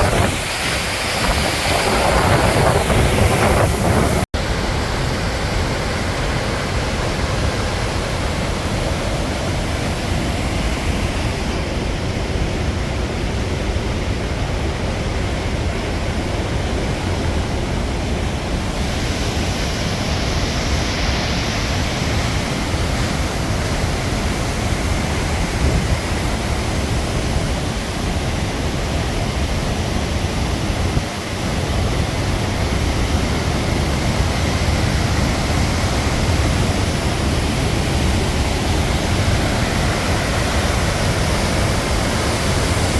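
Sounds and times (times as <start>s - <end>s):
large waterfall rushing: 0.0s - 42.9s.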